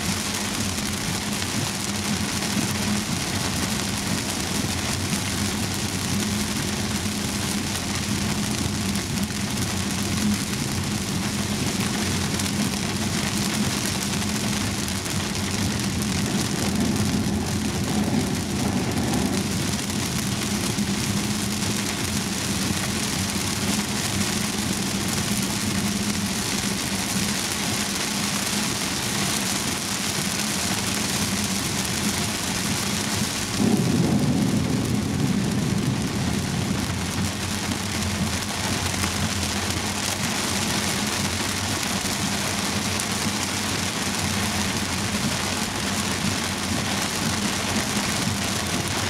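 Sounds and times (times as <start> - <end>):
heavy rain hissing on car: 0.0 - 49.0.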